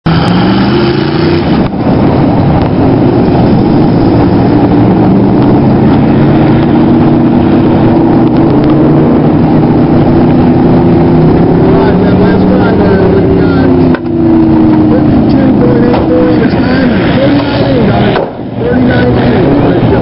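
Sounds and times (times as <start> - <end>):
truck engine revving high: 0.0 - 20.0.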